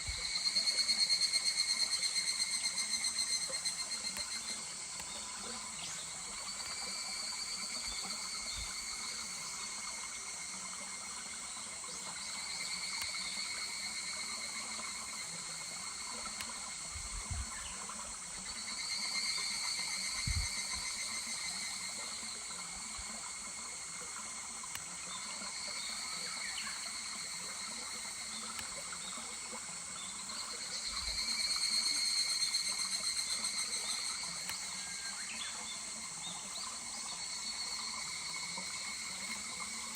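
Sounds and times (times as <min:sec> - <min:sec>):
babbling stream: 0:00.0 - 0:39.9
cicadas calling: 0:00.0 - 0:39.9.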